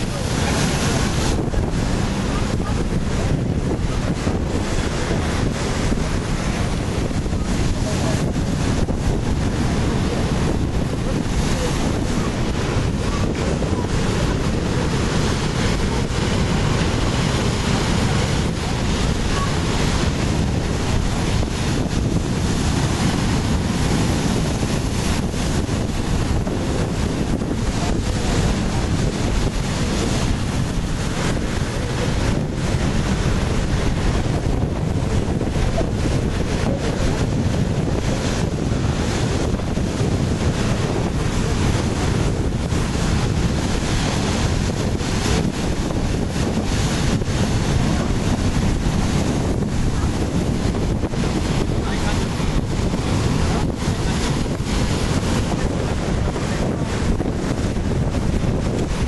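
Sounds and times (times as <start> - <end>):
surf breaking on rocky shore: 0.0 - 59.0
wind buffeting microphone: 0.0 - 59.0.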